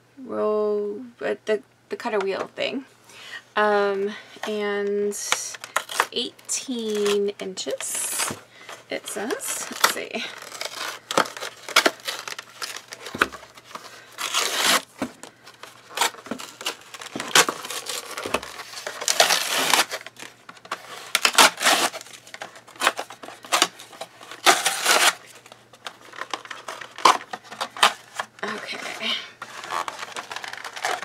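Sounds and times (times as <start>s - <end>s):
packaging rustling: 5.5s - 31.0s.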